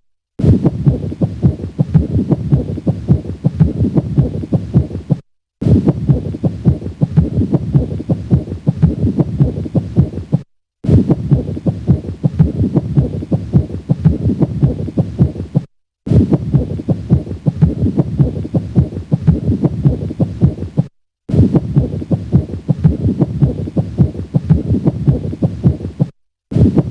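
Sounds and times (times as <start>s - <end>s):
heartbeat through stethoscope: 0.4s - 26.9s.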